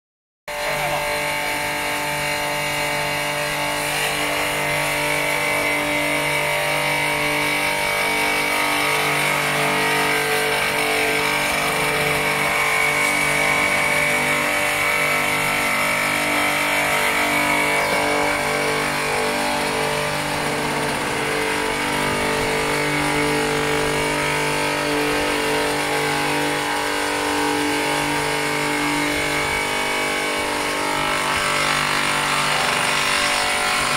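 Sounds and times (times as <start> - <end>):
machine running with high whine: 0.5 - 33.9.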